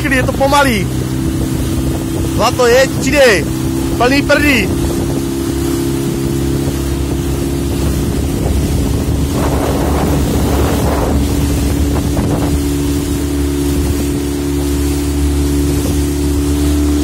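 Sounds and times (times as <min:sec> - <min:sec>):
wind across microphone: 0:00.0 - 0:04.0, 0:04.6 - 0:16.7
outboard motor running: 0:00.0 - 0:17.0
water rushing past hull: 0:00.0 - 0:17.0.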